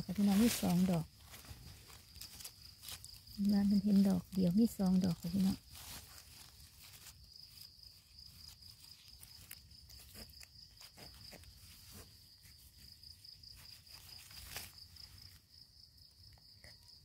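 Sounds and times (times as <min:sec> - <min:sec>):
hands rustling in dry leaves: 0:00.0 - 0:15.6
insect trilling: 0:00.0 - 0:17.0.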